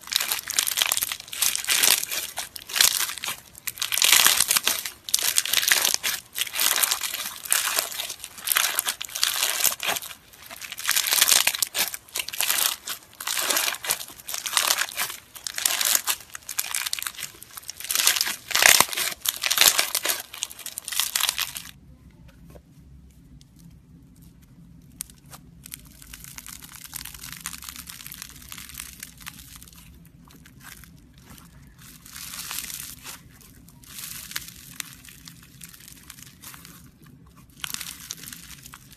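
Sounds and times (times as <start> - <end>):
beads crackling in slime: 0.0 - 21.8, 23.4 - 38.9
fluffy slime crackling: 0.0 - 22.0, 22.8 - 38.9
low steady hum: 0.0 - 38.9.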